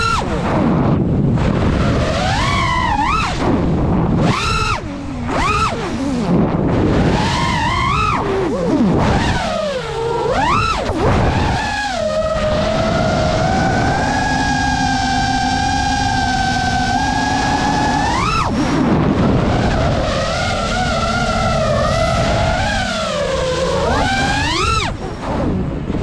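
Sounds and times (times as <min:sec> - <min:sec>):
drone motors whining: 0:00.0 - 0:26.0
steady rushing noise: 0:00.0 - 0:26.0.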